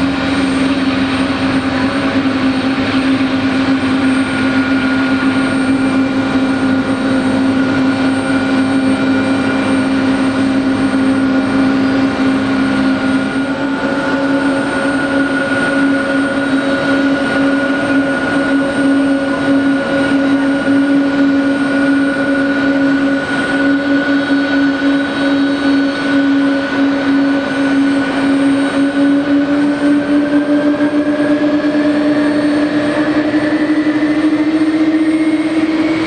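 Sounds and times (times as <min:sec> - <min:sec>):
jet engines whining at taxi power: 0:00.0 - 0:36.0.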